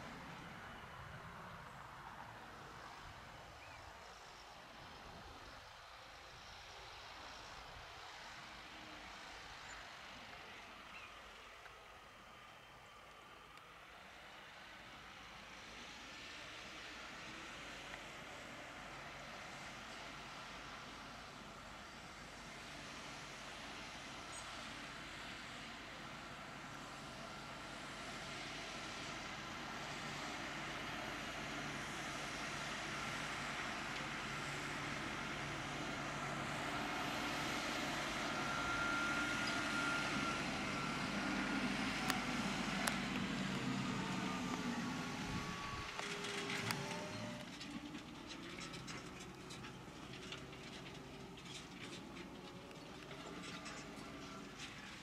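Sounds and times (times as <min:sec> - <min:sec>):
tractor diesel engine under load: 0:00.0 - 0:12.6, 0:14.2 - 0:55.0.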